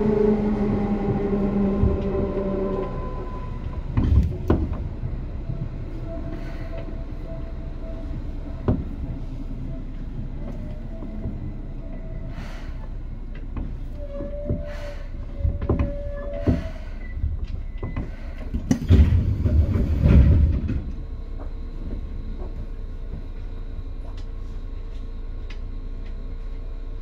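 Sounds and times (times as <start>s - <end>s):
train clunks: 0.0s - 24.4s
electric train hum: 0.0s - 27.0s.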